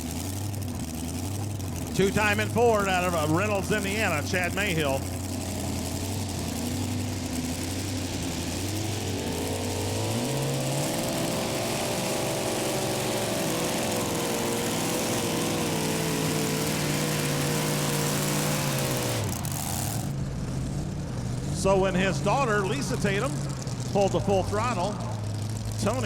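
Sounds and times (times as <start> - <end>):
pulling truck engine revving: 0.0 - 26.0.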